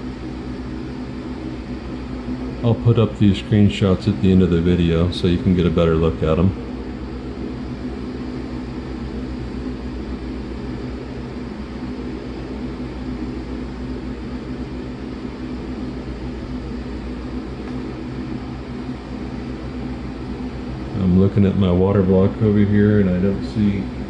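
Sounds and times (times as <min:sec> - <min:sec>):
fan running: 0:00.0 - 0:24.0.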